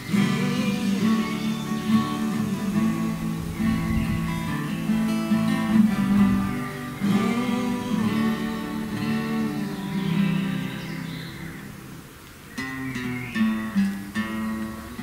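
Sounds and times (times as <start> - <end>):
acoustic guitars strummed and picked: 0.0 - 15.0.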